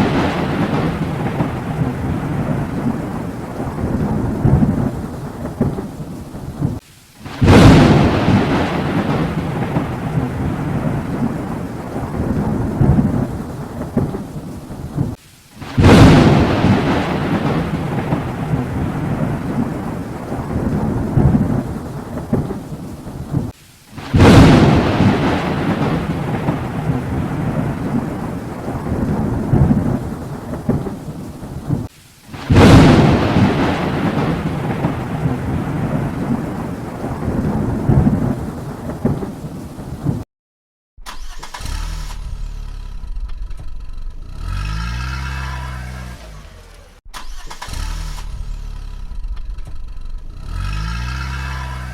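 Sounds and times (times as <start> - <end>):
thunder cracking and rumbling: 0.0 - 40.2, 48.2 - 51.0.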